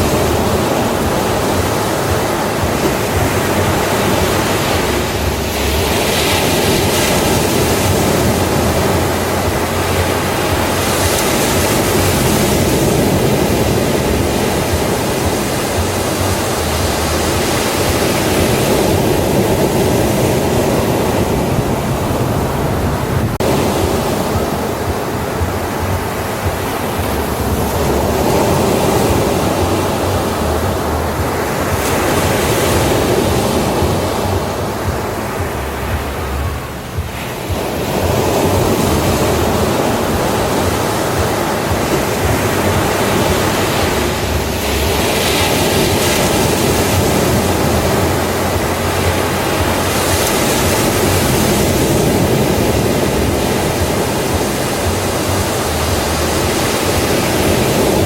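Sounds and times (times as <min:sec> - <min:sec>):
waves breaking on beach: 0:00.0 - 0:58.0
wind on microphone: 0:00.0 - 0:58.0.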